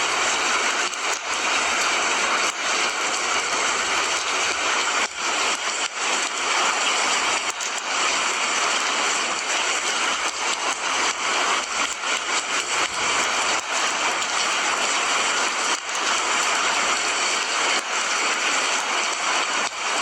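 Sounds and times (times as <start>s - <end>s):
heavy rain in a forest: 0.0s - 20.0s.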